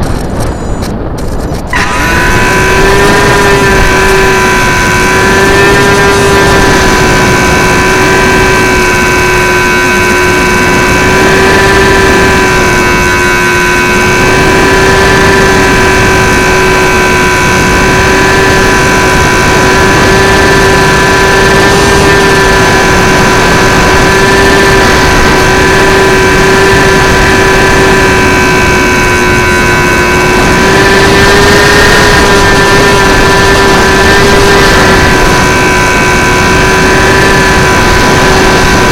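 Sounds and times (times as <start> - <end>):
electric motor and propeller whine: 0.0 - 38.9
wind noise on microphone: 0.0 - 38.9.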